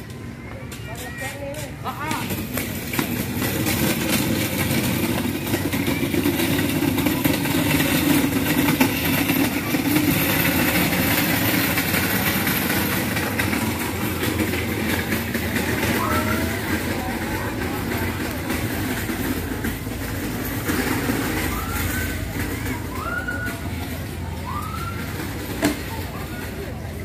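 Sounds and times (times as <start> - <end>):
indistinct voices: 0.0 - 27.0
motor rumble: 2.3 - 27.0.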